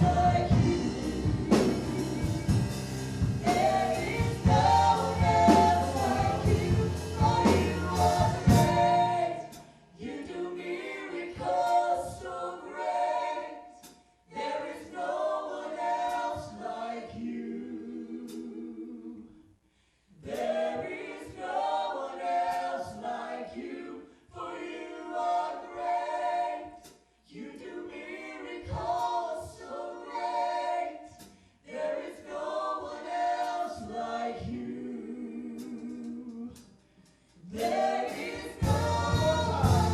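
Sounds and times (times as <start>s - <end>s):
gospel band with drums and bass: 0.0s - 19.2s, 20.2s - 39.9s
group singing unaccompanied: 0.0s - 19.4s, 20.2s - 36.7s, 37.4s - 39.9s.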